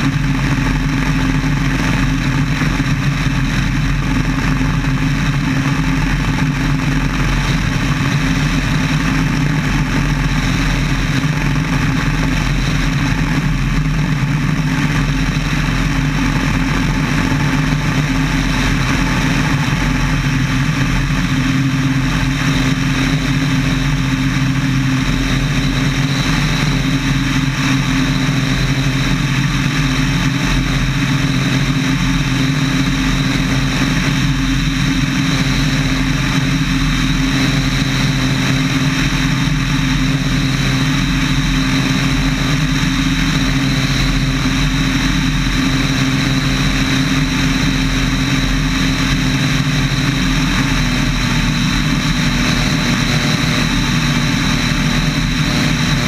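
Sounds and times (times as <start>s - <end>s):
air rushing over microphone: 0.0s - 56.0s
airplane engine and propeller droning: 0.0s - 56.0s.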